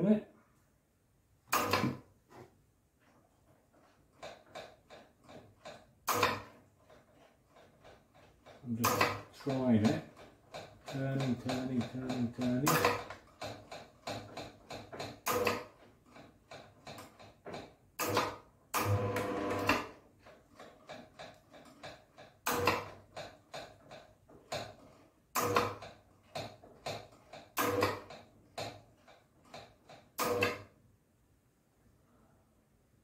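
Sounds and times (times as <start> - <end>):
garage door adjuster clicking: 1.5 - 2.0, 4.2 - 30.7.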